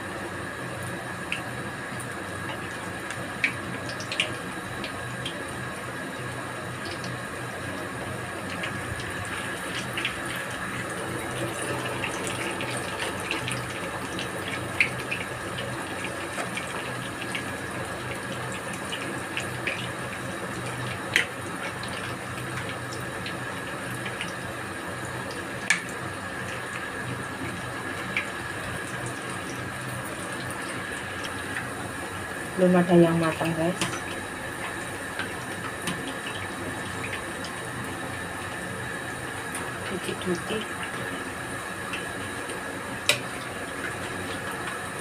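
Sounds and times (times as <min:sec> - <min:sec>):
batter sizzling in hot oil: 0:00.0 - 0:45.0.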